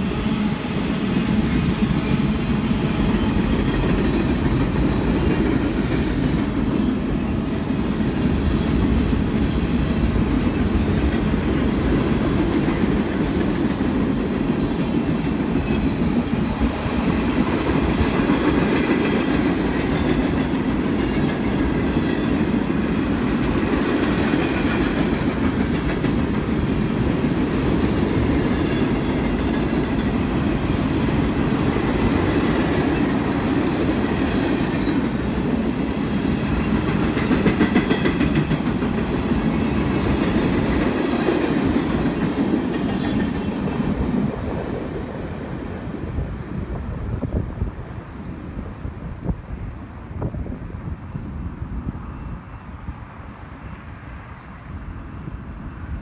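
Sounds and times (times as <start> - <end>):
freight train cars rumbling: 0.0 - 56.0.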